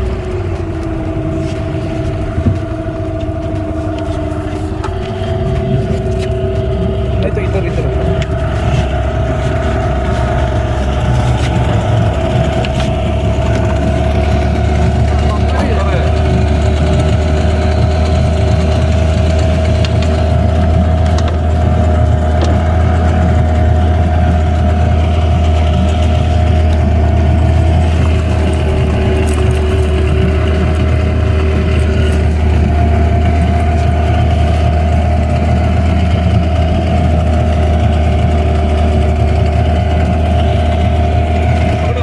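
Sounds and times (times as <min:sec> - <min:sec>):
boat motor running: 0:00.0 - 0:42.0.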